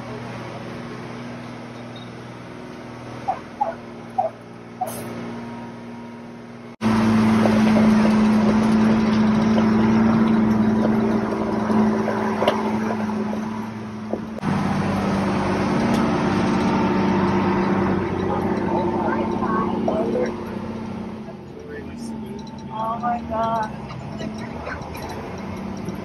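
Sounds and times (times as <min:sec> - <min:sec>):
road noise: 0:00.0 - 0:26.0
truck engine running steadily: 0:00.0 - 0:26.0.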